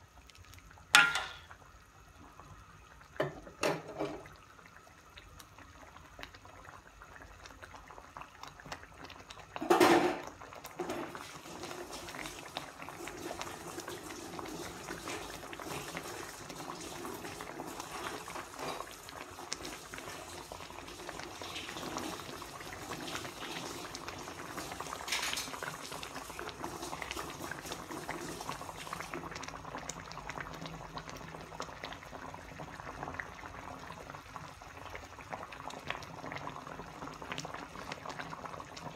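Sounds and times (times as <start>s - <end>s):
gravy simmering with bubbles popping: 0.0s - 38.9s.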